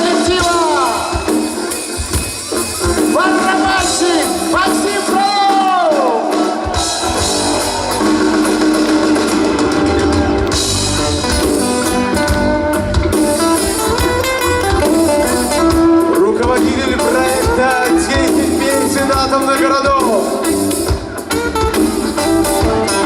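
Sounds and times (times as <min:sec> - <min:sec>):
guitar: 0:00.0 - 0:23.0
live band playing instrumental: 0:00.0 - 0:23.0.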